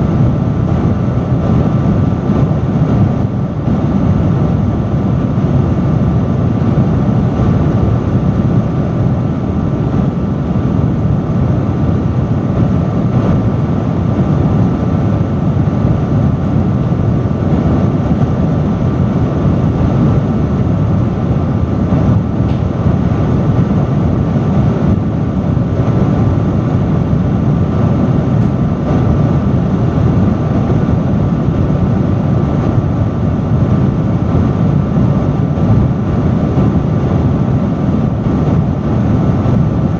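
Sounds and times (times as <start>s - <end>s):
fan blade hum: 0.0s - 39.9s
industrial fan rushing air: 0.0s - 39.9s.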